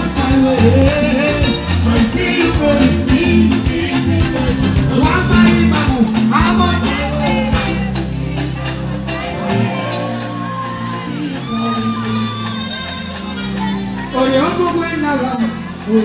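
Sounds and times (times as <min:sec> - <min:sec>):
man singing: 0:00.0 - 0:13.3, 0:14.1 - 0:16.0
bass guitar: 0:00.0 - 0:16.0
drums: 0:00.0 - 0:16.0.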